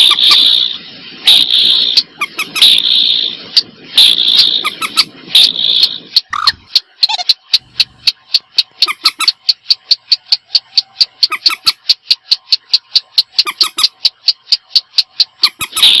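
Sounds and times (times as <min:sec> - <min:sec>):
high clicking bird calls: 0:00.0 - 0:00.6, 0:01.3 - 0:16.0.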